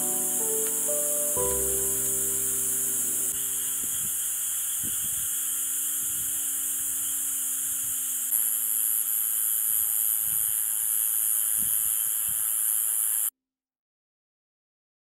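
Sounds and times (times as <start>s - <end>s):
night insects chirring: 0.0s - 13.3s
thin high insect trill: 0.0s - 13.3s.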